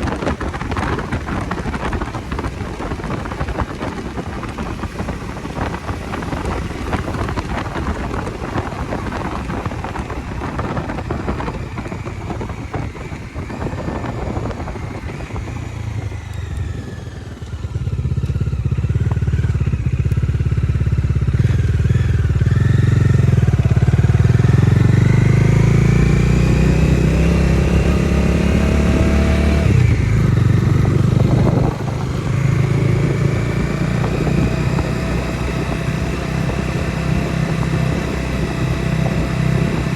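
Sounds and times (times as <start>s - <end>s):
wind rush: 0.0s - 19.0s, 21.1s - 39.9s
motorcycle engine revving: 0.0s - 39.9s
road noise: 0.0s - 39.9s.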